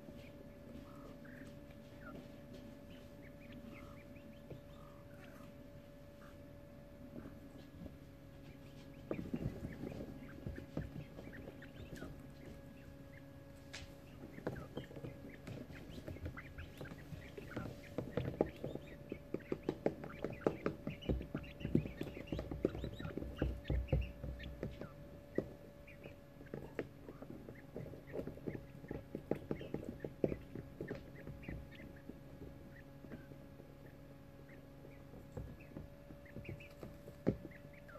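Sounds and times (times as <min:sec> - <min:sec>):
chicks chittering: 0:00.0 - 0:37.9
chicks shuffling in wood shavings: 0:00.0 - 0:37.9.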